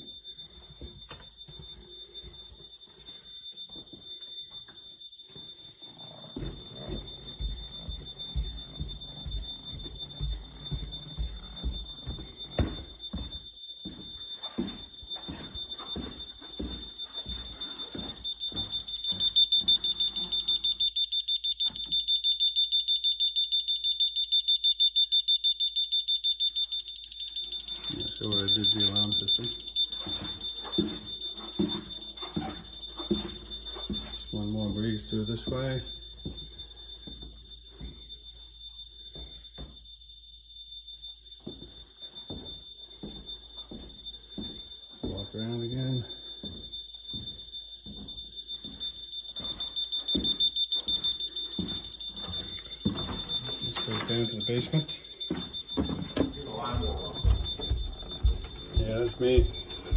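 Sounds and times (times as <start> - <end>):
footsteps: 0.0 - 20.6, 27.6 - 39.9, 41.4 - 59.9
alarm keypad beeping: 0.0 - 59.9.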